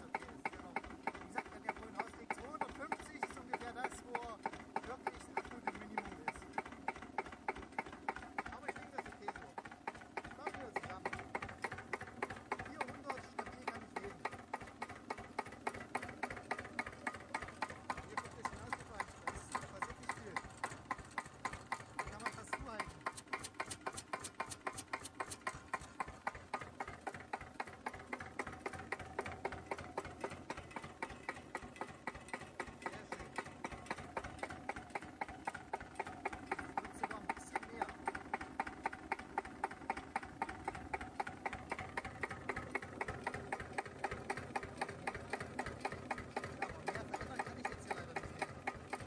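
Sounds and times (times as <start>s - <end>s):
single-cylinder engine idling: 0.0s - 49.0s.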